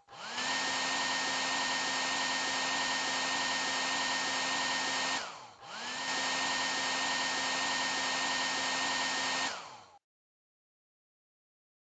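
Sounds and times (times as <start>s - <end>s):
hair dryer fan motor whirring: 0.0s - 10.0s.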